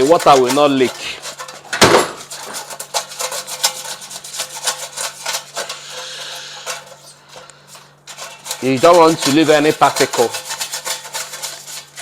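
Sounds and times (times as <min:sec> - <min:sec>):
sandpaper rubbing on metal: 0:00.0 - 0:07.2, 0:08.1 - 0:12.0.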